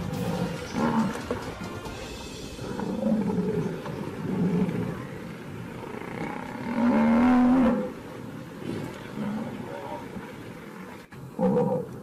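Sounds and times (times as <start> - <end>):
lion growling: 0.0 - 1.4, 2.5 - 12.0.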